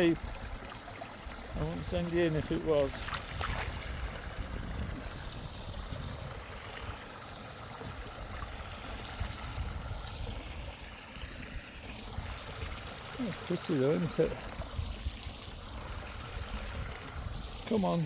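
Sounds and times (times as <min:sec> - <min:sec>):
stream running over stones: 0:00.0 - 0:18.0.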